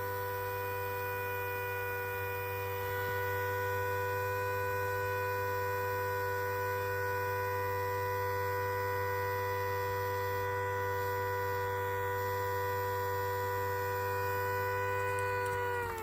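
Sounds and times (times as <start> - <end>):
low hum: 0.0 - 16.0
small warning siren: 0.0 - 16.0.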